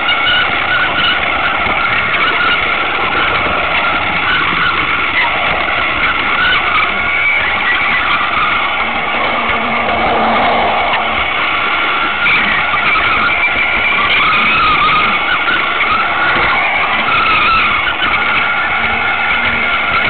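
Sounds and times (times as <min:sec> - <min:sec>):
toy train motor whirring: 0:00.0 - 0:20.0.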